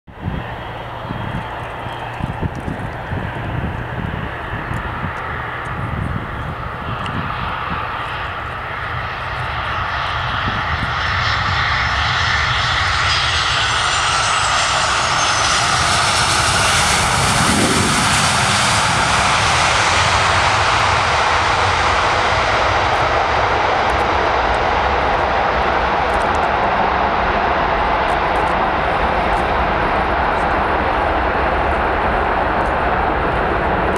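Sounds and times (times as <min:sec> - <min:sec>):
jet airliner landing and passing: 0:00.1 - 0:33.9
jet engine rumble: 0:00.1 - 0:33.9.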